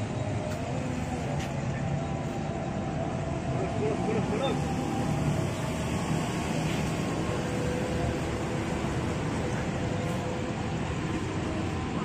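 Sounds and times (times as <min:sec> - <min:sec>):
bus engines idling: 0:00.0 - 0:12.0.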